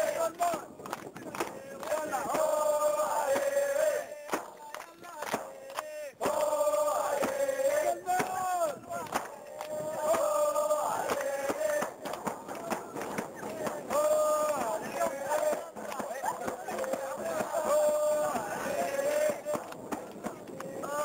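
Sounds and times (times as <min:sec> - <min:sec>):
crowd chanting in unison: 0:00.0 - 0:21.0
claps or sharp knocks: 0:00.3 - 0:21.0.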